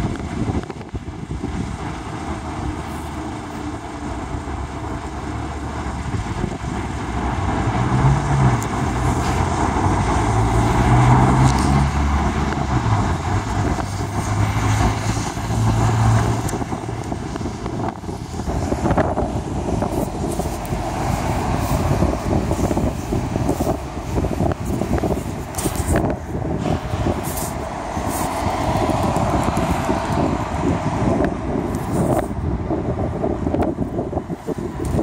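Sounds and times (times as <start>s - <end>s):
vehicle engine running: 0.0s - 32.3s
outdoor rumble: 0.0s - 35.0s.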